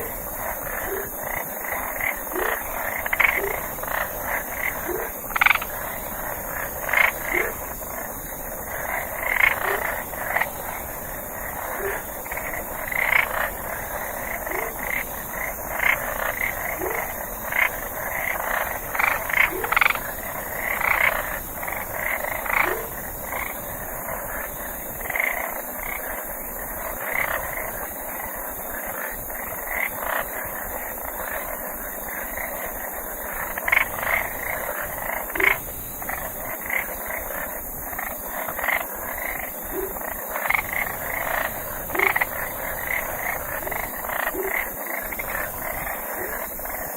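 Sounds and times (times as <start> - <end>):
frogs croaking: 0.0 - 46.9
steady high hiss: 0.0 - 46.9.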